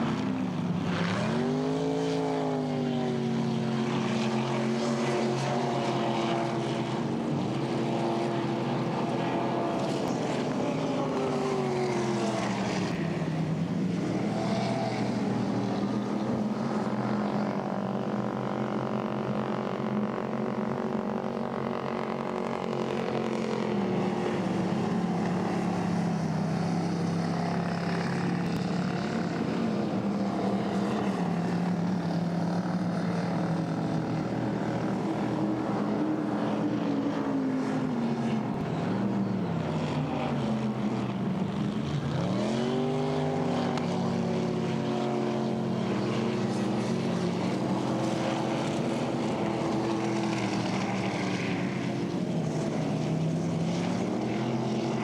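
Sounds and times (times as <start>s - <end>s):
racing boat engines running hard: 0.0s - 55.0s.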